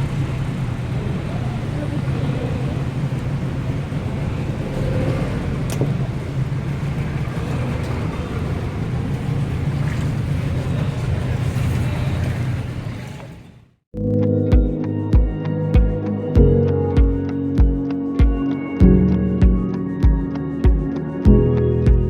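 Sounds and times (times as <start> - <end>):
low engine drone: 0.0 - 12.9, 14.0 - 22.0.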